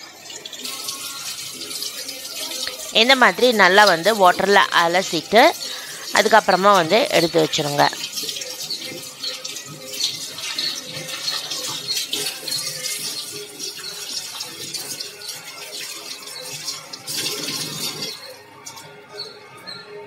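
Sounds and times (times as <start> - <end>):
tap water running into sink: 0.2 - 18.3.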